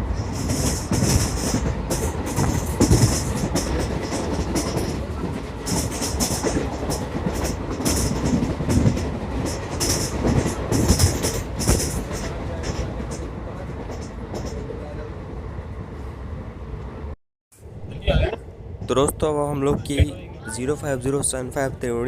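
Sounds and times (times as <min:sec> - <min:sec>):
train wheels rumbling on rails: 0:00.0 - 0:17.1, 0:18.0 - 0:22.0.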